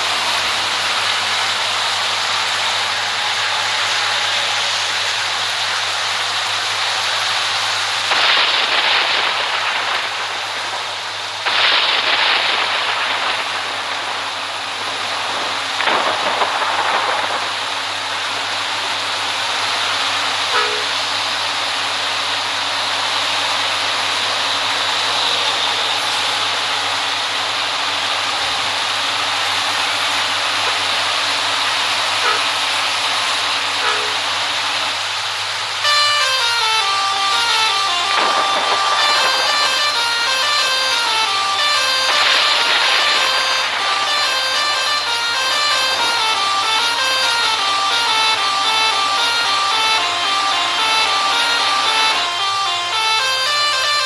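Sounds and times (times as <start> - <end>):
road traffic hiss and hum: 0.0 - 54.0.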